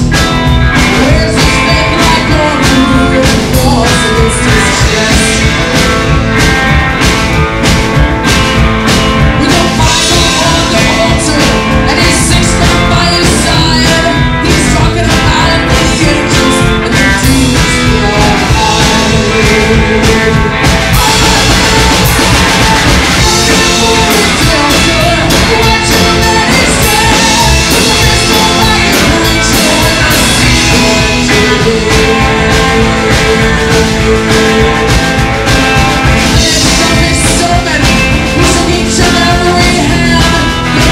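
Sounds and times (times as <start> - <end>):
person singing: 0.0 - 40.9
rock and roll band playing: 0.0 - 40.9.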